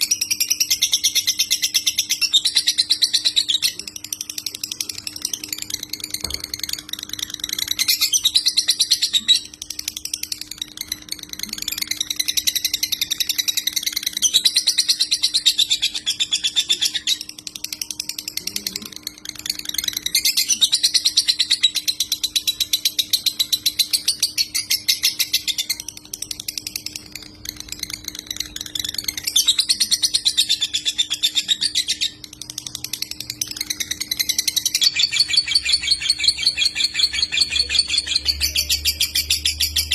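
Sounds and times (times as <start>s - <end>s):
lovebird rapid chatter: 0.0s - 39.9s.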